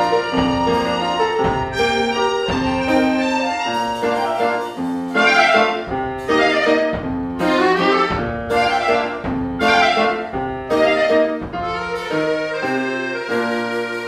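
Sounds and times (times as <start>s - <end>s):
chamber ensemble playing: 0.0s - 14.0s.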